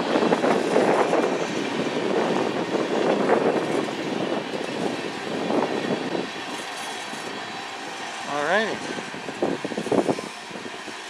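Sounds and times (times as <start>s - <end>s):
steel wheels rumbling on rails: 0.0s - 11.0s
wheels clacking over rail joints: 0.0s - 11.0s.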